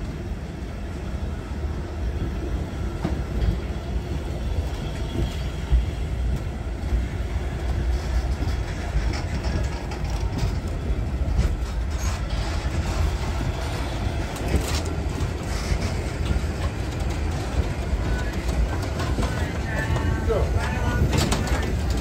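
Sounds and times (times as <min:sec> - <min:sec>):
train coaches rumbling: 0:00.0 - 0:22.0
wheels clacking over rail joints: 0:02.9 - 0:22.0.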